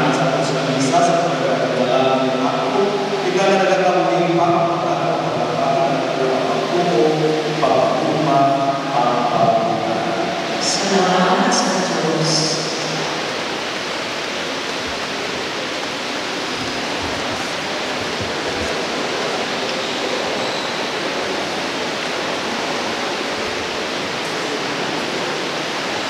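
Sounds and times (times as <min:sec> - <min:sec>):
steady rushing hiss: 0:00.0 - 0:26.0.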